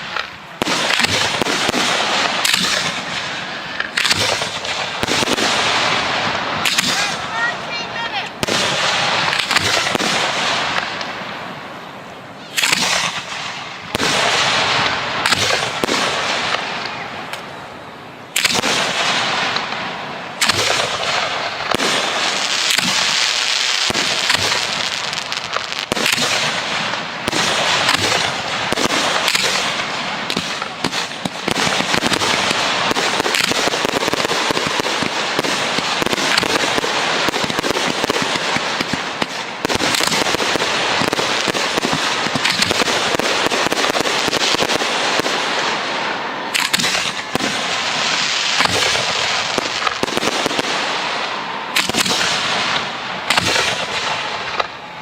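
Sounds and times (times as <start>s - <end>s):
fireworks crackling and hissing: 0.0s - 55.0s
firework shells bursting: 8.4s - 11.2s, 12.4s - 17.5s, 18.4s - 54.8s.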